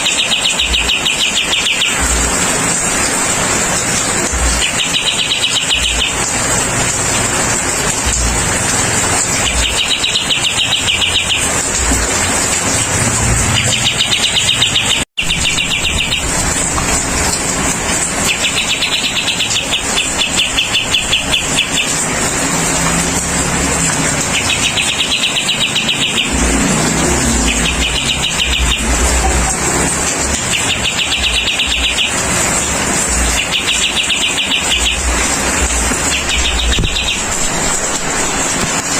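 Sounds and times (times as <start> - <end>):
bird trilled calls: 0.0 - 2.5, 4.2 - 6.7, 8.9 - 17.3, 18.2 - 22.8, 24.0 - 38.5.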